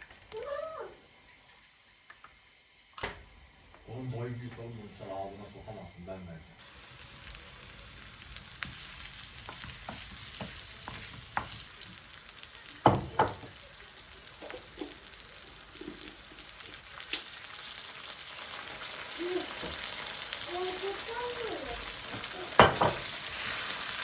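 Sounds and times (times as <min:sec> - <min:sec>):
sizzling hiss with crackles: 0:00.0 - 0:24.0.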